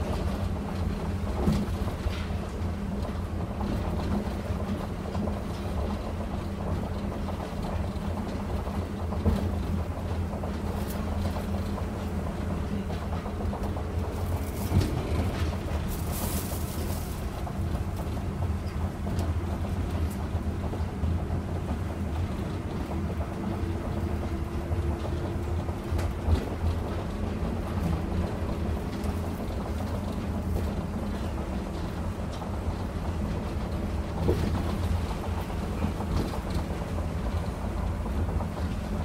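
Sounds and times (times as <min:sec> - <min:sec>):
tram running rumble: 0:00.0 - 0:39.0.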